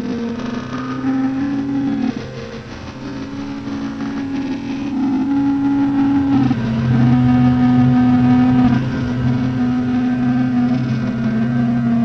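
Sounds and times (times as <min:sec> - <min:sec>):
droning noise music: 0:00.0 - 0:12.0.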